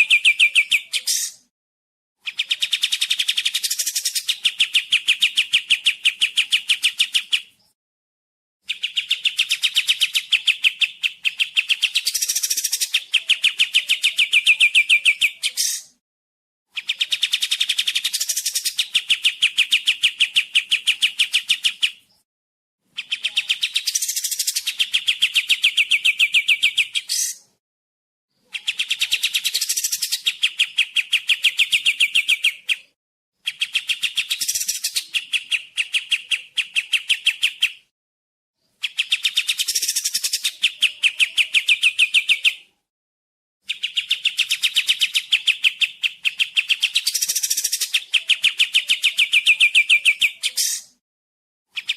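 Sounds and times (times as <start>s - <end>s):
songbird singing: 0.0s - 1.5s, 2.2s - 7.8s, 8.6s - 16.0s, 16.7s - 22.2s, 22.9s - 27.6s, 28.3s - 37.9s, 38.6s - 42.8s, 43.6s - 51.0s.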